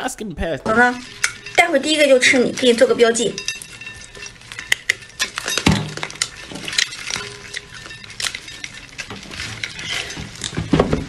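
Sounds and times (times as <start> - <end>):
crabs clicking and scratching: 0.7 - 11.0.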